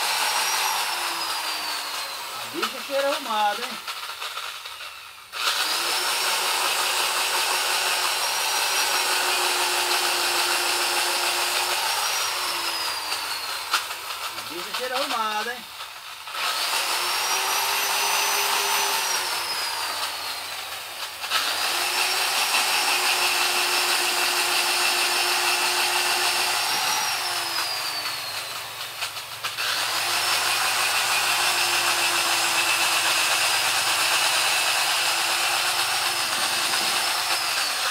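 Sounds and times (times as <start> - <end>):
electric drill boring into wood: 0.0 - 37.9.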